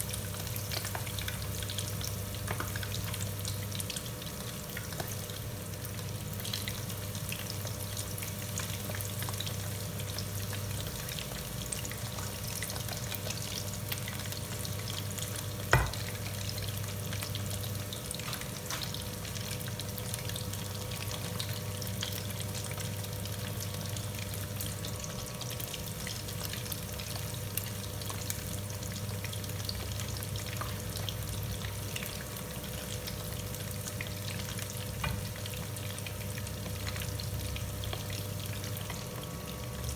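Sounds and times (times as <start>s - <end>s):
food frying in hot oil: 0.0s - 39.9s.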